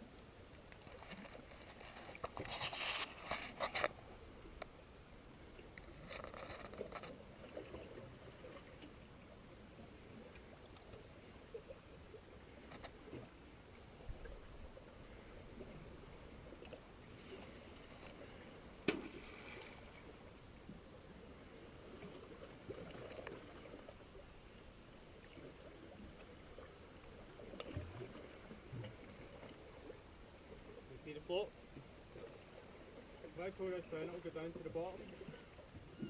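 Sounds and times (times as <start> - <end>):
water lapping against rocks: 5.4 - 36.0.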